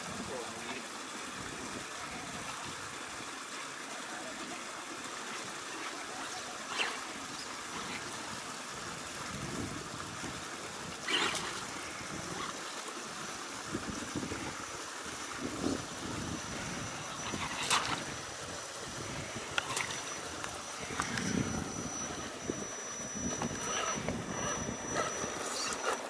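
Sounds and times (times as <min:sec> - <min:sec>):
stream trickling over rocks: 0:00.0 - 0:26.0.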